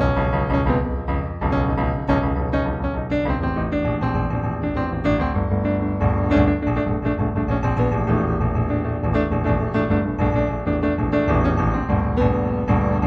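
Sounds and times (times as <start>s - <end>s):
improvised solo piano: 0.0s - 13.0s.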